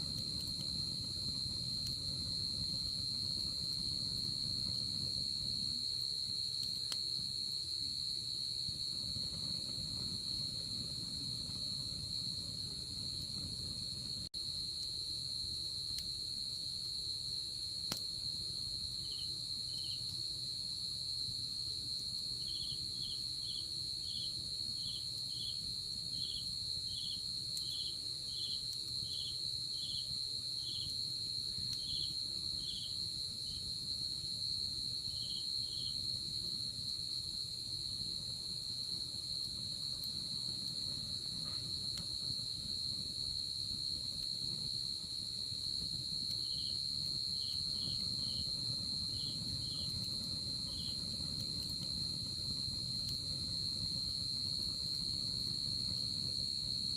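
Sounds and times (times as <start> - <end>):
cricket chirps: 0.0 - 56.9
high-pitched insect trill: 0.0 - 56.9.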